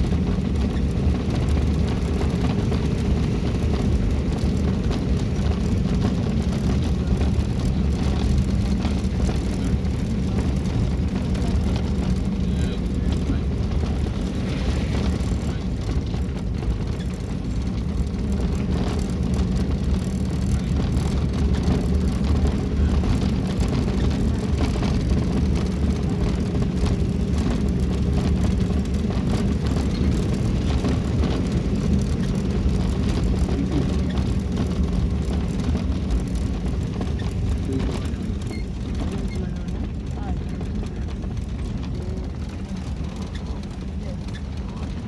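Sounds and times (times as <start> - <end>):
tyres on brick paving: 0.0 - 45.0
vehicle engine running: 0.0 - 45.0.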